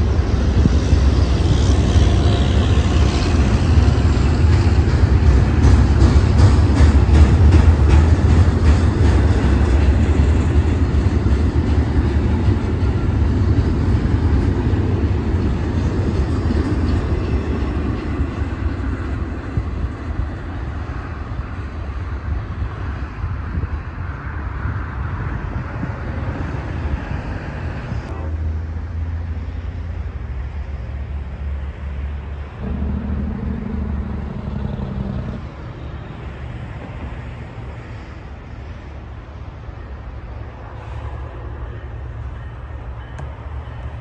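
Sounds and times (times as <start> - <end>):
train passing on rails: 0.0 - 44.0.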